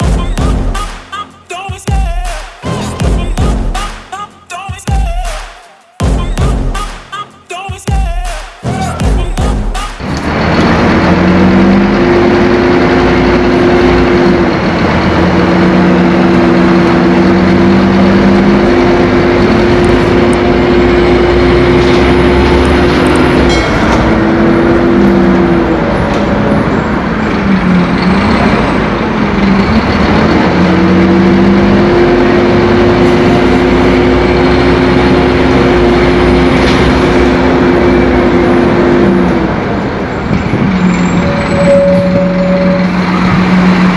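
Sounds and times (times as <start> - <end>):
bus diesel engine running: 0.0 - 4.7, 6.0 - 43.9.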